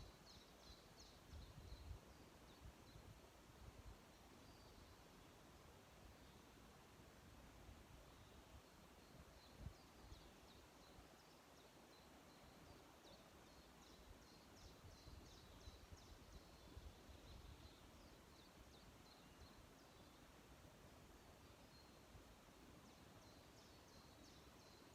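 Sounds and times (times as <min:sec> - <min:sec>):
faint birdsong chirping: 0:00.0 - 0:24.9.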